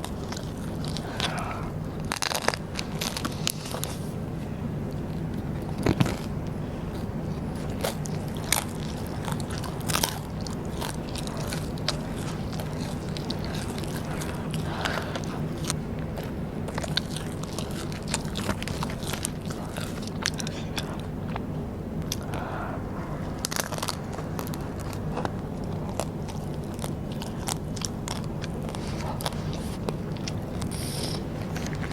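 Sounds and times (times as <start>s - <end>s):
chewing crunchy snacks: 0.0s - 31.9s
steady low hum: 0.0s - 31.9s.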